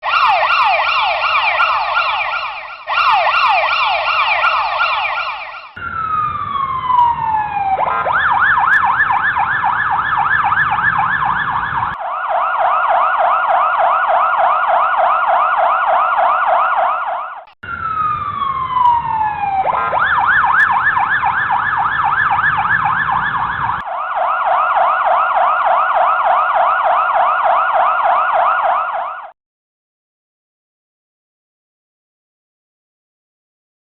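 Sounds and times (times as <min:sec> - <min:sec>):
electronic ambulance siren: 0:00.0 - 0:29.4.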